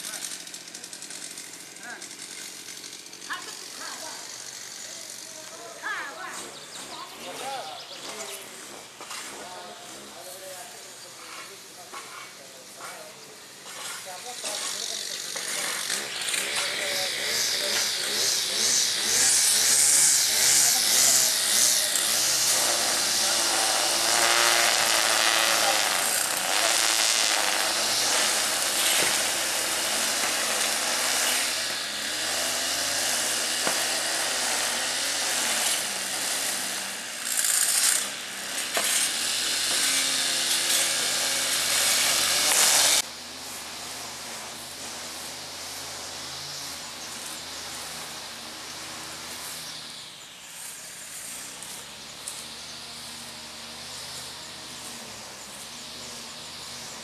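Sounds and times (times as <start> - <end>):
brush cutter engine drone: 0.0 - 57.0
quiet outdoor background: 0.0 - 57.0.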